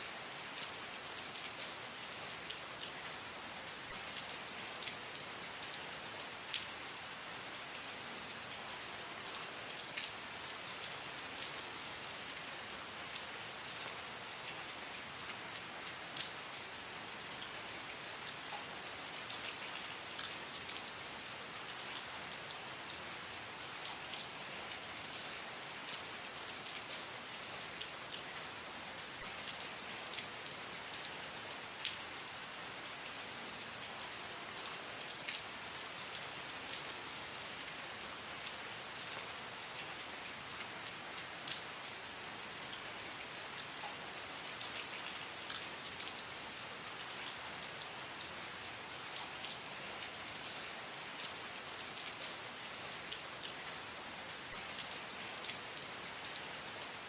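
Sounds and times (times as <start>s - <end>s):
rain drops pattering on a surface: 0.0s - 57.0s.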